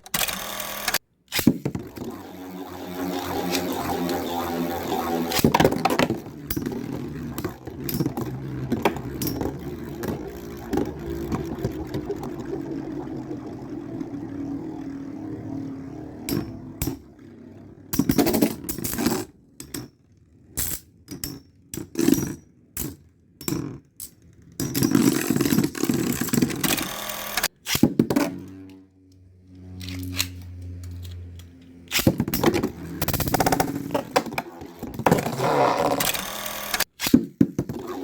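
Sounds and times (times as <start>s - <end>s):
spinning tops whirring: 0.0s - 19.2s, 25.0s - 38.0s.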